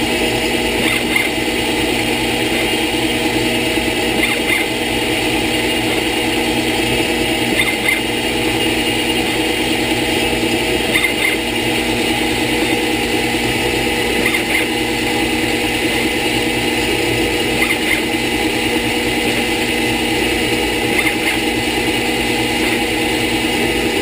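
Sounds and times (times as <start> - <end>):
lathe machine hum: 0.0 - 24.0.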